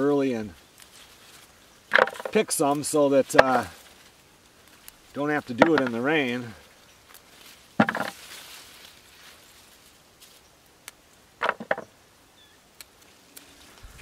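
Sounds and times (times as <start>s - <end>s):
bean plants rustling: 0.0s - 11.8s, 12.7s - 14.0s.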